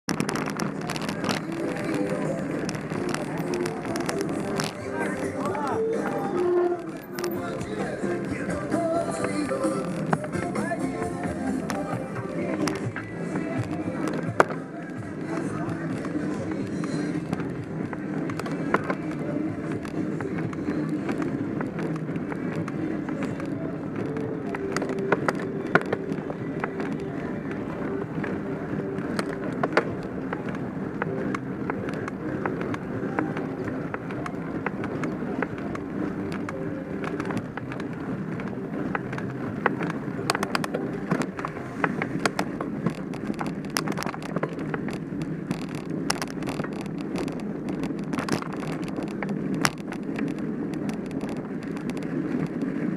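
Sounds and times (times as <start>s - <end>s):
bike clicking and rattling: 0.0s - 52.9s
tyre and wind noise: 0.0s - 52.9s.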